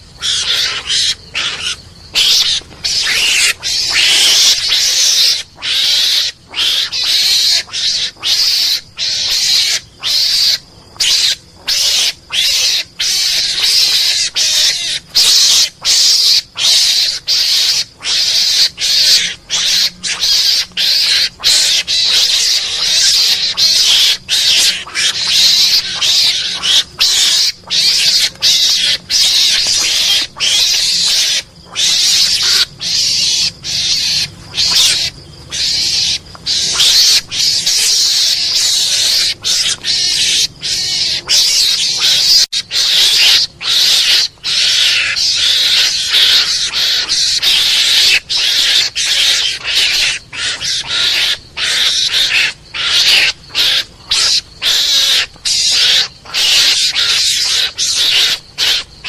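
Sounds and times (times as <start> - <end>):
mongoose lure call squeals: 0.0 - 59.0.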